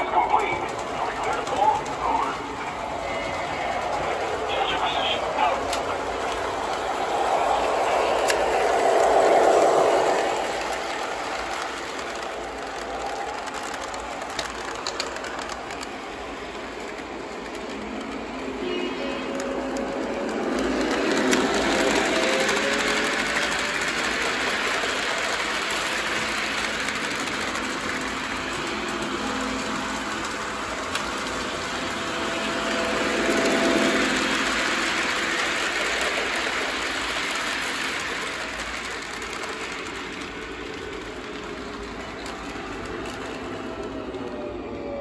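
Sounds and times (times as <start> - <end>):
toy trains whirring on rails: 0.0 - 45.0.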